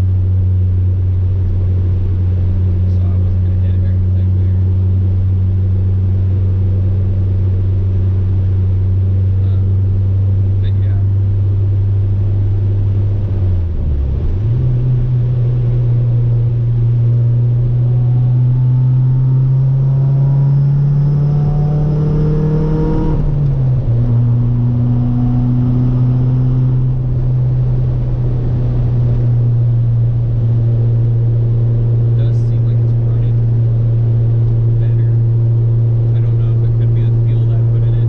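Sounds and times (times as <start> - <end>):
car engine drone: 0.0 - 38.0.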